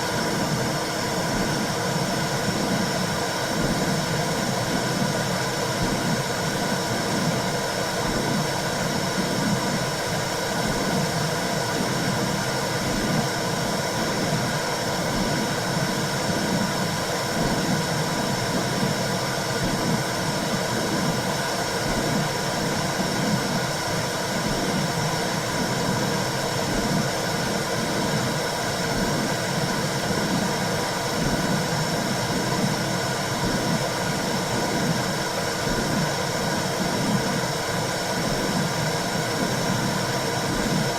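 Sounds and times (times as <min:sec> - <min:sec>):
womb sound hiss with whooshing pulse: 0:00.0 - 0:40.9.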